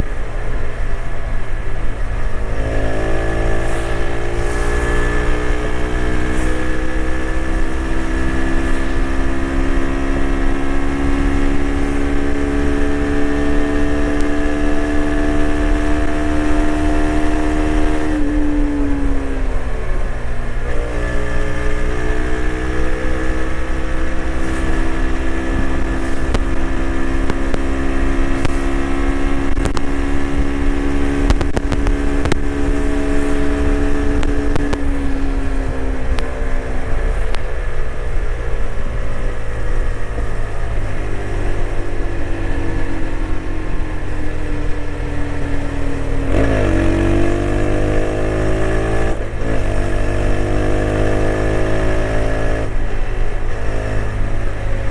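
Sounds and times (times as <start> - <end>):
motorcycle engine running: 0.0 - 54.9
wind rush on microphone: 0.0 - 54.9.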